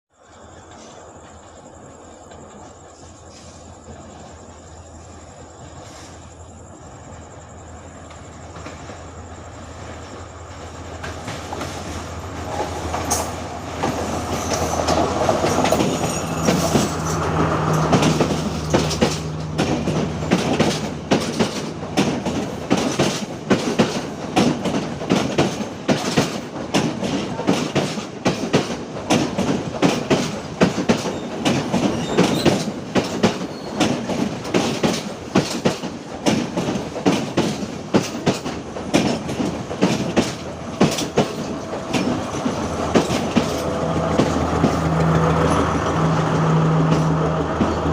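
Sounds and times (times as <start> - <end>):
train engine rumble: 0.1 - 47.9
train wheels clickety-clack: 8.0 - 47.9.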